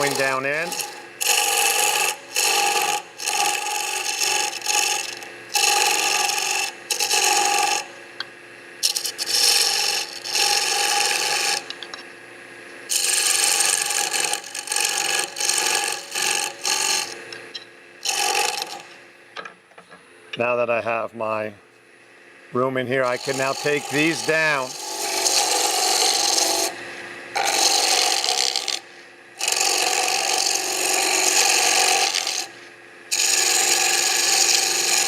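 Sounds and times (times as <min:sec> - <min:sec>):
chisel scraping wood on lathe: 0:00.0 - 0:07.9, 0:08.8 - 0:12.0, 0:12.9 - 0:17.4, 0:18.0 - 0:19.0, 0:22.9 - 0:35.0
lathe motor humming: 0:00.0 - 0:12.0, 0:12.8 - 0:19.0, 0:22.5 - 0:35.0.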